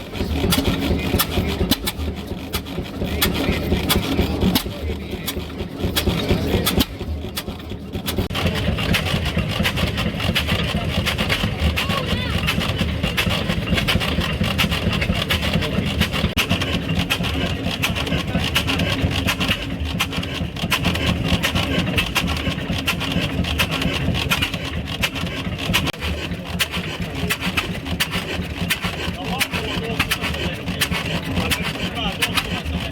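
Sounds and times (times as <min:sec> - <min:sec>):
engine running: 0:00.0 - 0:32.9.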